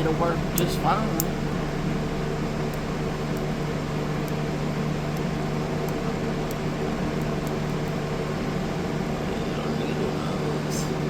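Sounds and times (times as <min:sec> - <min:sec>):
machine hum low drone: 0:00.0 - 0:11.0.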